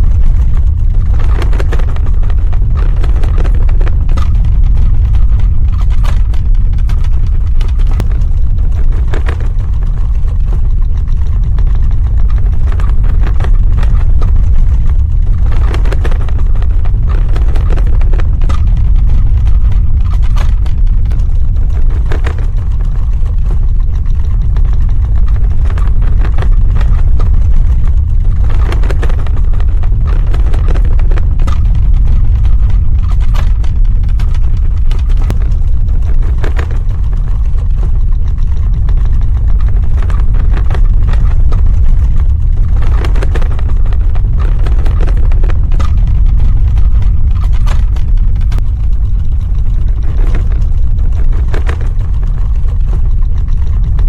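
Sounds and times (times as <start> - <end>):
crackling and rattling: 0.0 - 54.0
deep earthquake rumble: 0.0 - 54.0.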